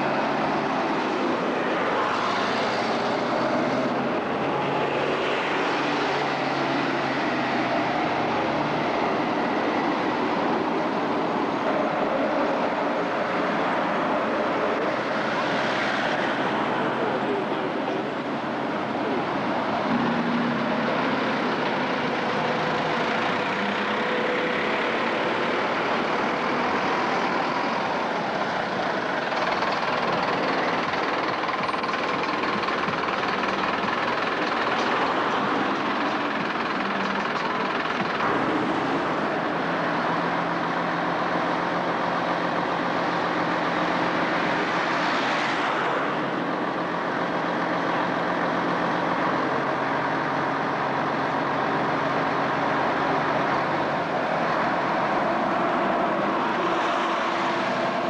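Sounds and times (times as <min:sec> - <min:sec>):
traffic passing close by: 0:00.0 - 0:58.0.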